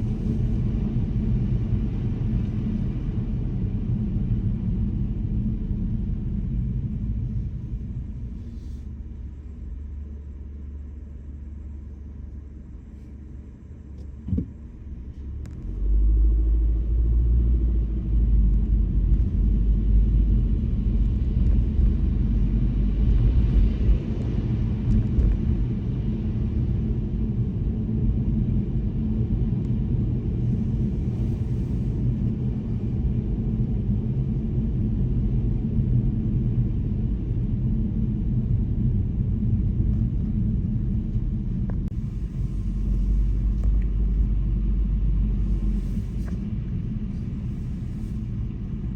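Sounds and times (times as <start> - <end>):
car driving on road rumble: 0.0 - 48.9.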